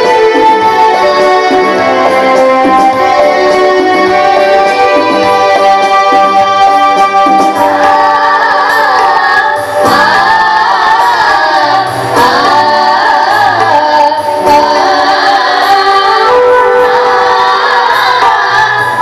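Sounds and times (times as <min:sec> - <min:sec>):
electronic keyboard chords: 0:00.0 - 0:19.0
girls singing together: 0:00.0 - 0:19.0.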